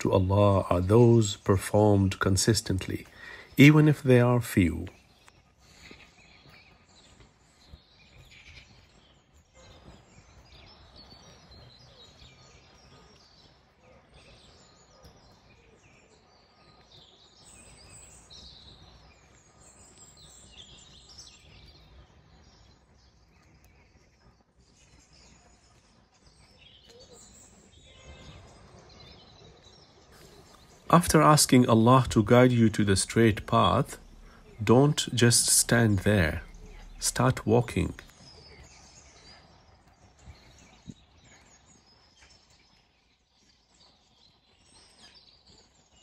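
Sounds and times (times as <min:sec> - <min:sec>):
faint birds chirping: 0:00.0 - 0:46.0.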